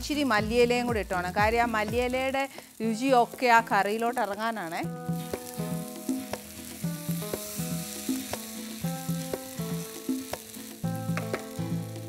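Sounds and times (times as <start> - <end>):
background music with held notes: 0.0 - 12.0
chicken sizzling in a pan: 1.2 - 12.0.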